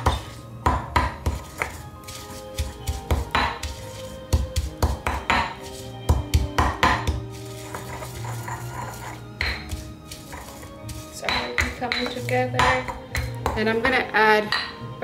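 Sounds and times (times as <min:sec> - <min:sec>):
stone pestle pounding in mortar: 0:00.0 - 0:13.6.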